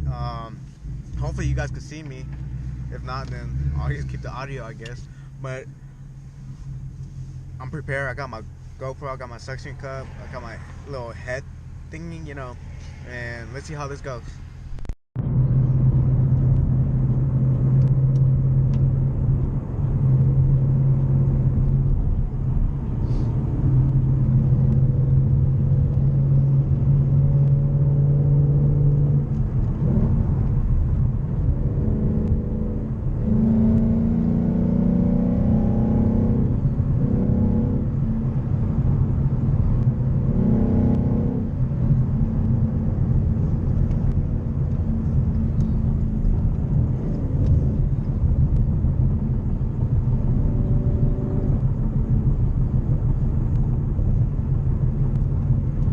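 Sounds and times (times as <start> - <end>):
car engine accelerating: 0.0 - 55.9
road noise inside car: 0.0 - 55.9.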